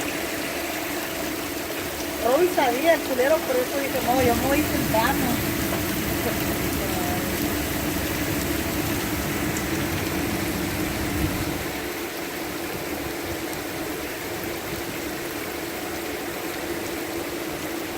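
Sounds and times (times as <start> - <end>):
heavy rain falling: 0.0 - 17.9.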